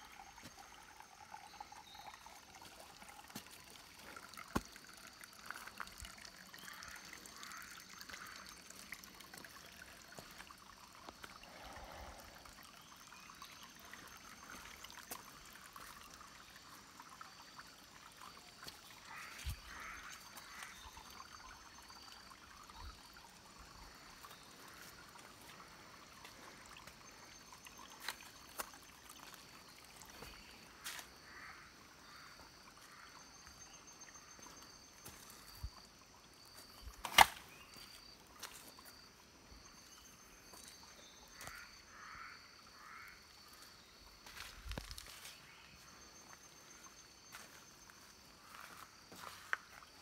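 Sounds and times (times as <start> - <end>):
insects chirping: 0.0 - 50.0.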